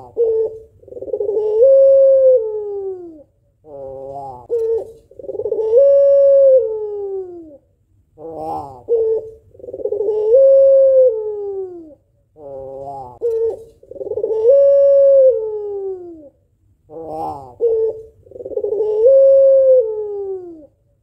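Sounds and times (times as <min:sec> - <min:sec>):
dove cooing: 0:00.0 - 0:20.8.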